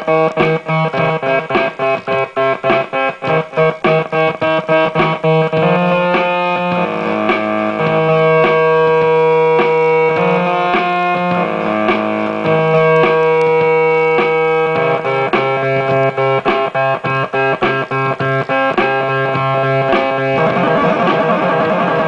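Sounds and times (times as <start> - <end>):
synthesizer held stepping tones: 0.0 - 22.0
synthesizer plucked notes: 0.0 - 22.0.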